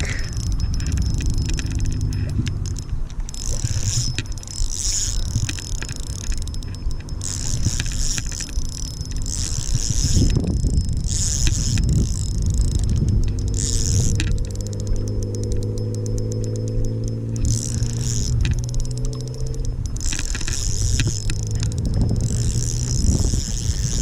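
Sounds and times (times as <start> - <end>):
fishing reel drag buzzing: 0.0 - 24.0
wind on microphone: 0.0 - 24.0.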